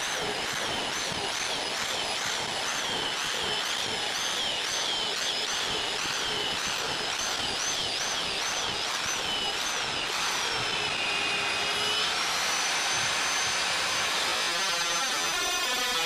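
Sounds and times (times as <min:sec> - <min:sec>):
electric drill whining: 0:00.0 - 0:16.0.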